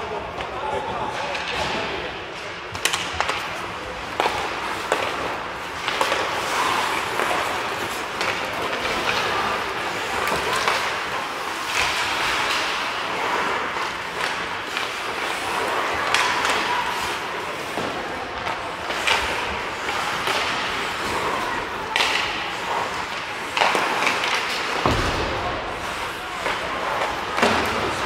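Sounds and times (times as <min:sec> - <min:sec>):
hockey sticks and puck knocking: 0:01.2 - 0:28.0
skate blades scraping on ice: 0:02.8 - 0:28.0.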